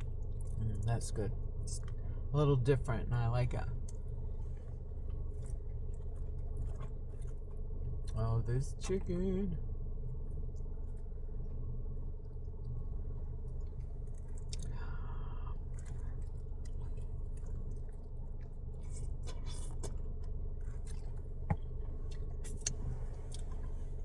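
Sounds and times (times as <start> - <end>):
steady low hum: 0.0 - 24.0
person chewing: 1.6 - 2.1, 3.8 - 9.0, 10.1 - 24.0.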